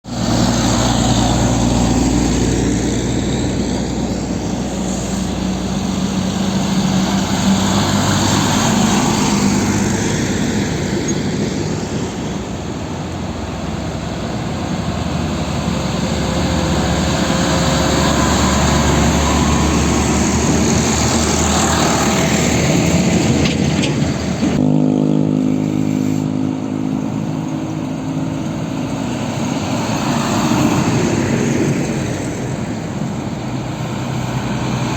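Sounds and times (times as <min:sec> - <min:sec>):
truck engines running: 0:00.0 - 0:34.9.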